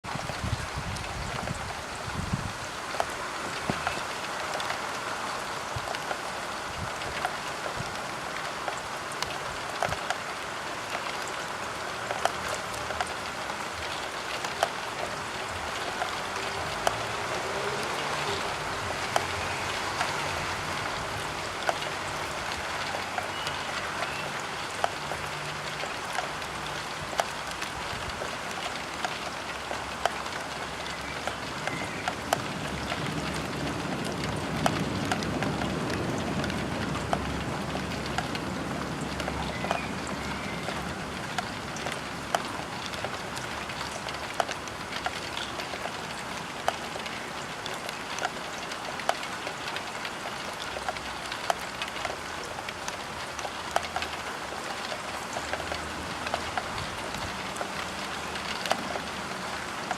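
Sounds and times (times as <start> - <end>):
rain pattering on window: 0.0 - 59.9.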